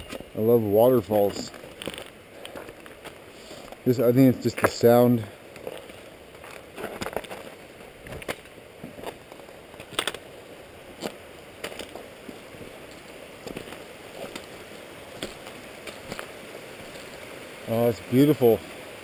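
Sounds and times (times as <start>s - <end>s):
footsteps crunching in snow: 0.0s - 17.4s
small waterfall rushing: 0.0s - 19.0s.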